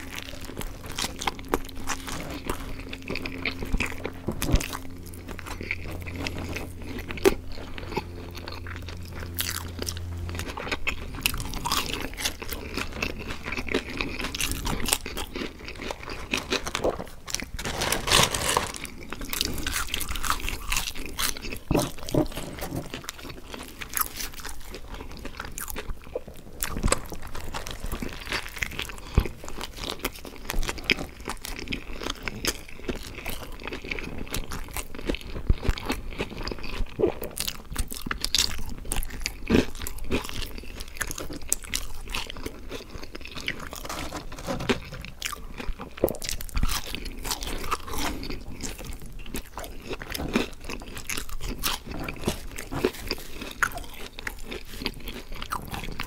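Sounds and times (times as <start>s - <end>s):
chewing with crunches: 0.0s - 56.0s.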